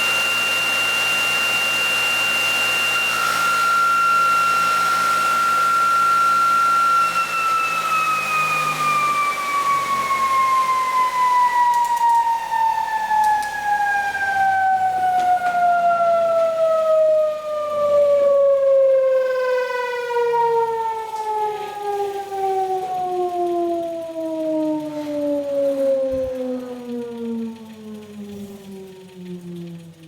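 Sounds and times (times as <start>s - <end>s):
electric motor whine winding down: 0.0s - 30.0s.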